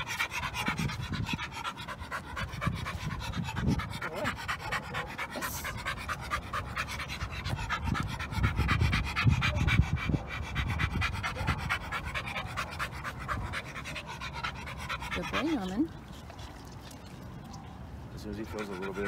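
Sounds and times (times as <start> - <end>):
dog panting hard: 0.0 - 16.3, 18.2 - 19.0.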